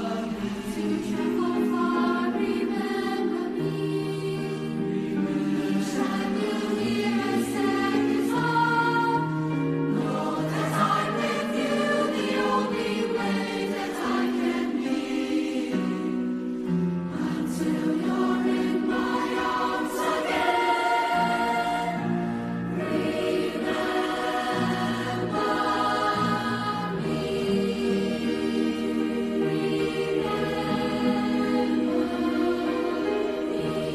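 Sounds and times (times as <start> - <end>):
choir singing held chords: 0.0 - 33.9.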